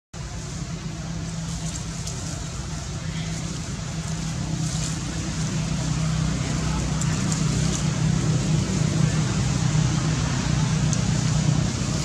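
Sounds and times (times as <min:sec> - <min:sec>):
engine humming: 0:00.2 - 0:12.0.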